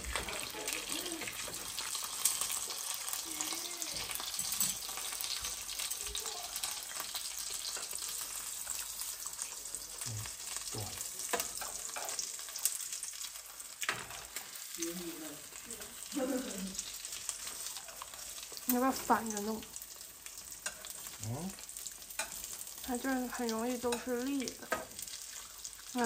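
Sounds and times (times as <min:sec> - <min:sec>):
egg sizzling in a pan: 0:00.0 - 0:26.0.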